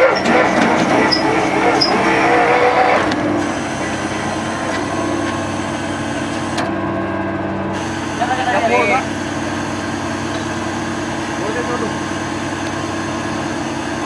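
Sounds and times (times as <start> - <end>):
drilling rig engine drone: 0.0 - 14.0.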